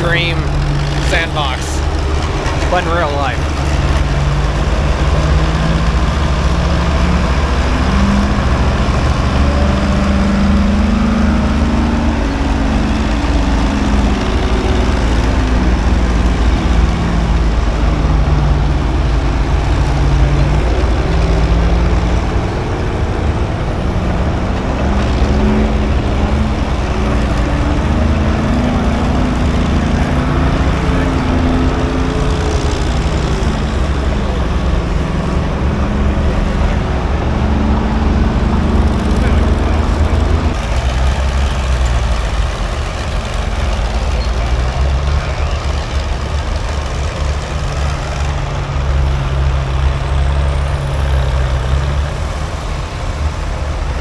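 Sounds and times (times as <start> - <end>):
heavy equipment engine revving: 0.0 - 54.0.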